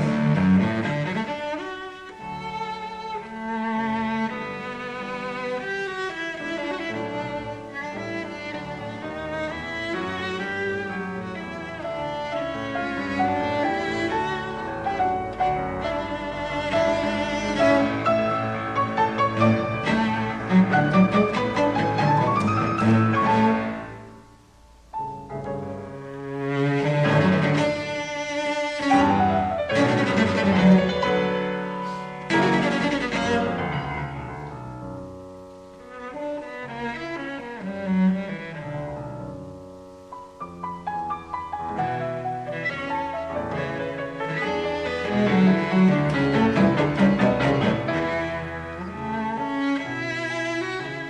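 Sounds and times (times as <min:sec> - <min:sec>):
violin and cello music: 0:00.0 - 0:24.5, 0:25.2 - 0:51.0.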